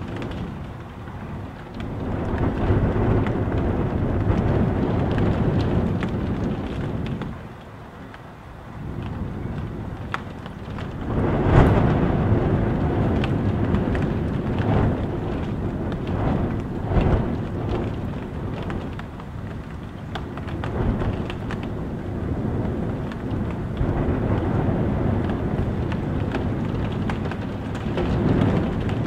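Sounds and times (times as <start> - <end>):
gusting wind: 0.0 - 29.0
rain tapping: 0.0 - 29.0.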